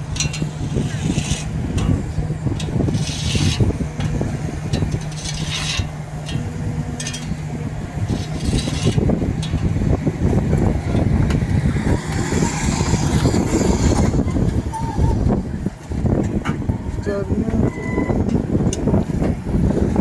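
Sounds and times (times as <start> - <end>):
excavator diesel engine rumbling: 0.0 - 20.0.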